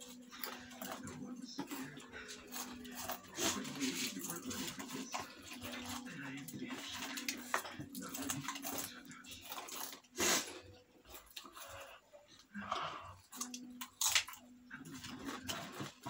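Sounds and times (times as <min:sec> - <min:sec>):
chip bag crinkling: 0:00.0 - 0:12.0, 0:13.3 - 0:16.0
chips crunching: 0:00.0 - 0:12.0, 0:12.8 - 0:16.0.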